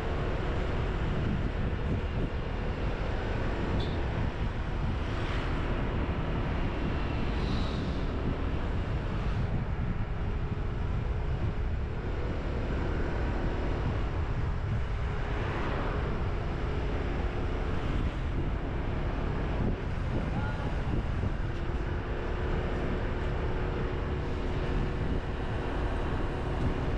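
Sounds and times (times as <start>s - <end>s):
wind rumble on microphone: 0.0s - 26.9s.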